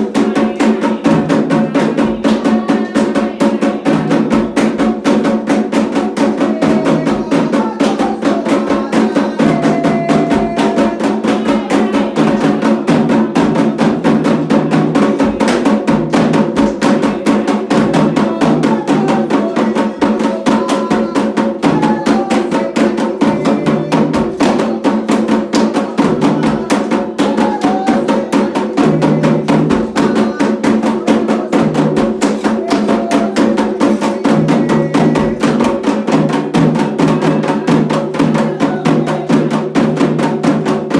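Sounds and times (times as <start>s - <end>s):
hand drums playing fast rhythm: 0.0s - 40.9s.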